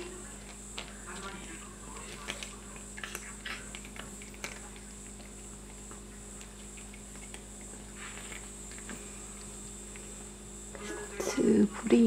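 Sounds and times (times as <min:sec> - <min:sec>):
cat crunching dry kibble: 0:00.3 - 0:10.1.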